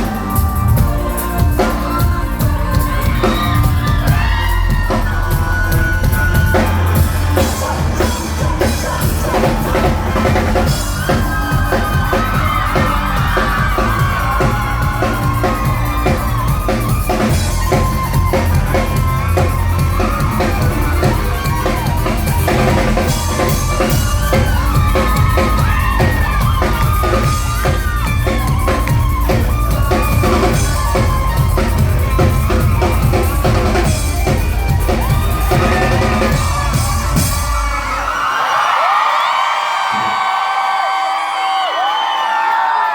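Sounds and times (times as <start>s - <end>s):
electric guitar lead: 0.0s - 37.8s
live rock band playing: 0.0s - 38.1s
audience cheering and whooping: 0.0s - 42.9s.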